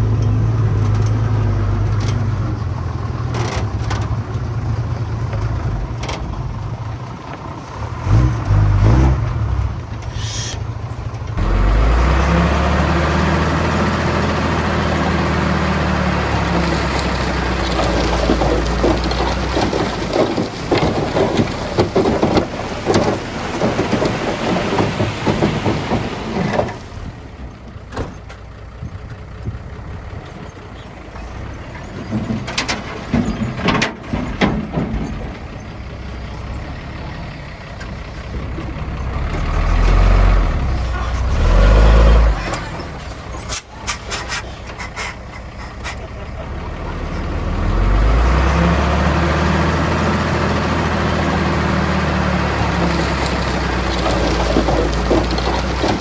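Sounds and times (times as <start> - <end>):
heavy machinery rattling and scraping: 0.0 - 56.0
low engine rumble: 0.0 - 56.0.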